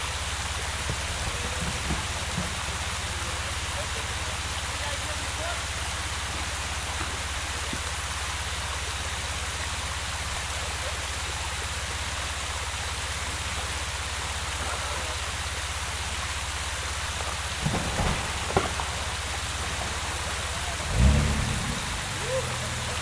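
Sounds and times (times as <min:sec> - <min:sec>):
water pouring over waterfall: 0:00.0 - 0:23.0.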